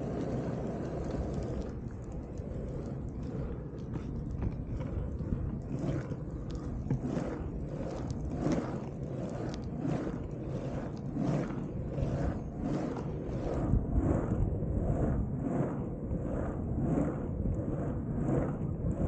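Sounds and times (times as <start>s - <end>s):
skateboard wheels rolling on asphalt: 0.0s - 19.0s.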